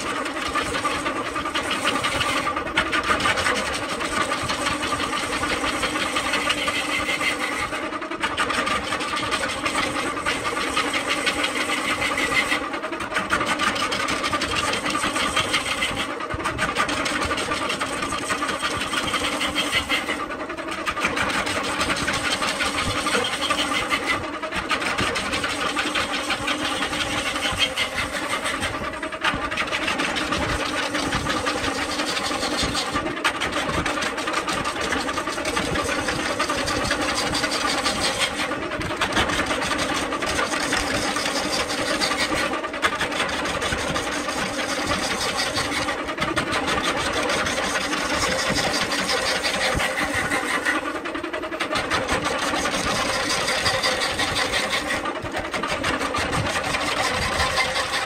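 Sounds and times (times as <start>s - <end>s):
chisel rasping on spinning wood: 0.0s - 58.0s
lathe motor hum: 0.0s - 58.0s.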